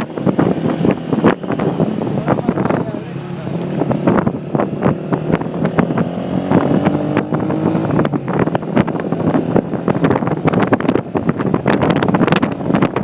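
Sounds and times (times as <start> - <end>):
motorcycle engine humming: 0.0 - 13.0
wind buffeting microphone: 0.0 - 13.0.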